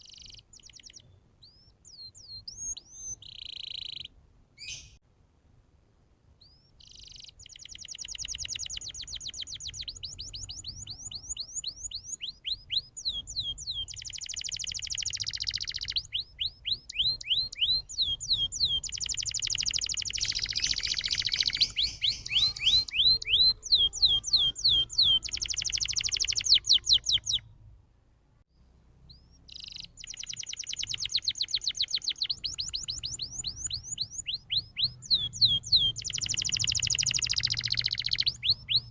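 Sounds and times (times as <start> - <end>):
canary singing trills: 0.0 - 5.0, 6.4 - 27.5, 28.6 - 38.9.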